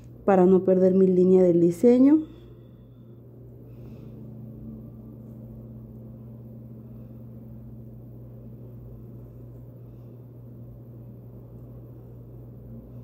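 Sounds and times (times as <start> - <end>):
steady low hum: 0.0 - 13.0
faint higher tone: 2.2 - 12.9.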